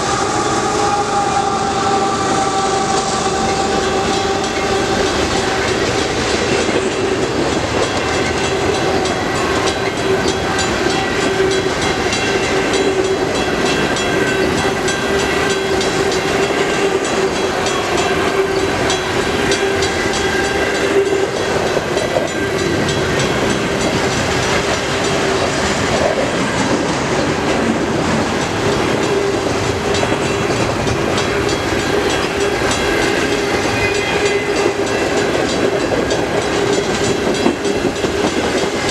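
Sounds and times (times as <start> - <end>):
freight train rumbling past: 0.0 - 38.9
wheels clacking over rails: 0.0 - 38.9.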